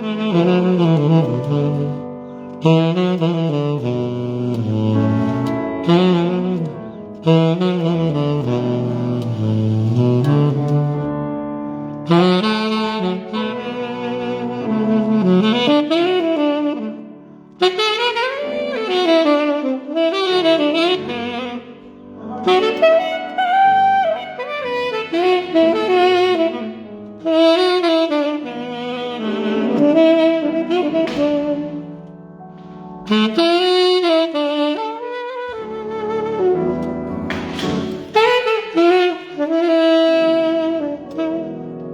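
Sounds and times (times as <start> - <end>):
saxophone melody: 0.0 - 41.9.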